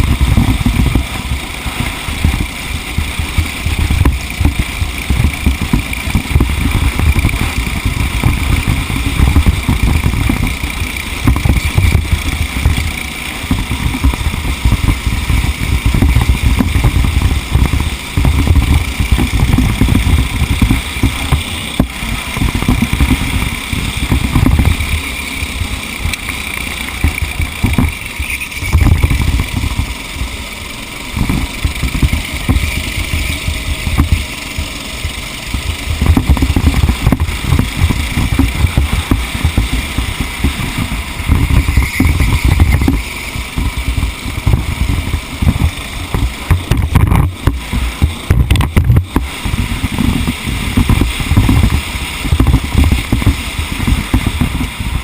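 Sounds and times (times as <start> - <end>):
racing engine at speed: 0.0 - 55.0
wind buffeting microphone: 0.0 - 55.0.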